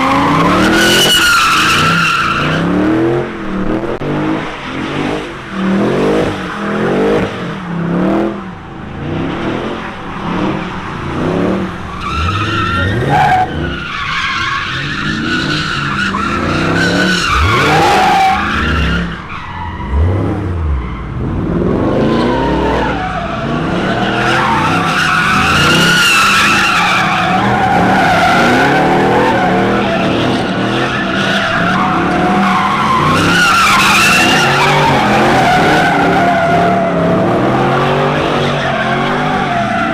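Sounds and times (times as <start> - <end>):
tires squealing and skidding: 0.0 - 3.7, 8.5 - 39.9
car engine revving: 0.0 - 39.9.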